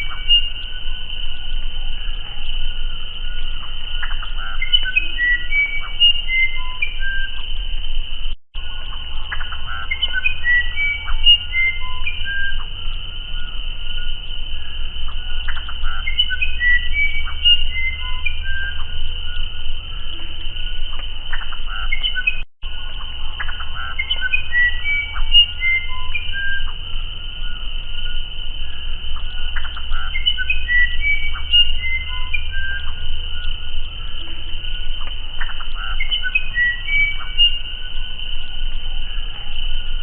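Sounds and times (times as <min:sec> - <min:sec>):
bird whistling flute-like notes: 0:00.0 - 0:01.0, 0:01.8 - 0:07.4, 0:08.6 - 0:20.0, 0:23.2 - 0:40.0
steady high-pitched tone: 0:00.0 - 0:40.0.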